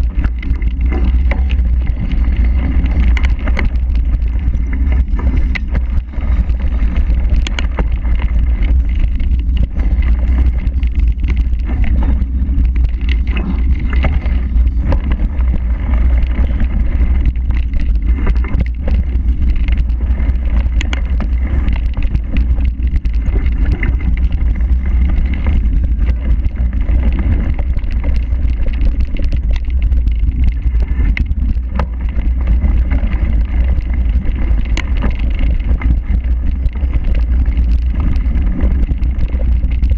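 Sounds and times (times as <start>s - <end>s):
bike knocks and rattles: 0.0s - 39.9s
tyre noise: 0.0s - 39.9s
wind rumble on microphone: 0.0s - 39.9s.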